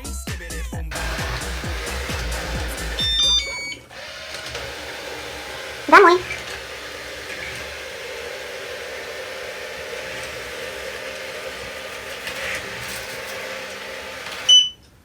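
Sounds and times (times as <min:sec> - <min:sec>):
robot vacuum motor hum: 0:00.9 - 0:14.6.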